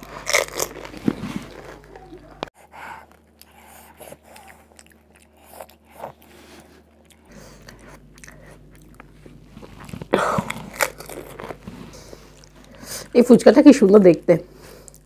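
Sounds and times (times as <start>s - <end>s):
loud crunching and chewing: 0.0s - 13.1s, 14.6s - 15.0s.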